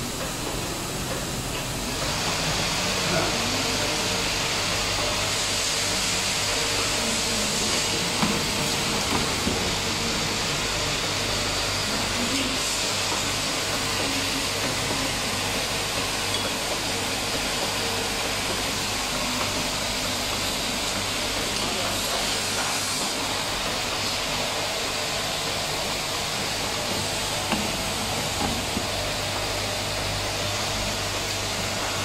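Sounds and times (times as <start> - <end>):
machinery hum and hiss: 0.0 - 32.0.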